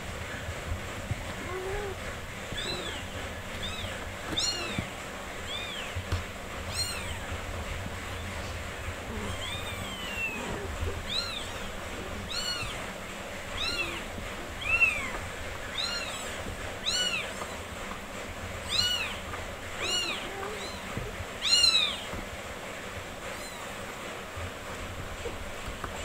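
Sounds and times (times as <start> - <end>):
kittens mewing: 1.3 - 17.8, 18.6 - 22.3, 23.2 - 24.0.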